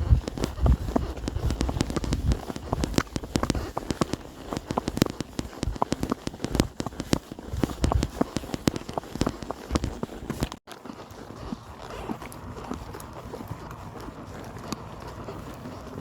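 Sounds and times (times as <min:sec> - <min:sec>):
hooves crunching on dry ground: 0:00.0 - 0:16.0.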